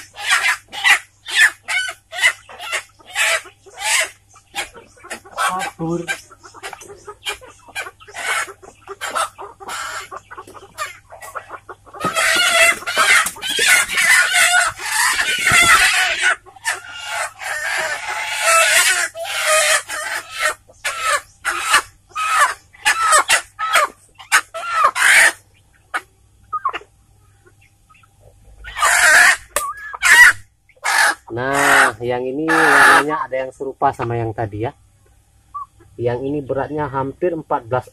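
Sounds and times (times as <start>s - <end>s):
chickens clucking and squawking: 0.0s - 37.9s.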